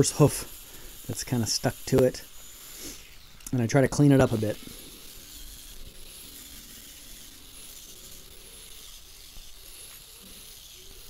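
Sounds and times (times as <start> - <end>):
wire wheel grinder scrubbing metal: 0.0 - 11.0.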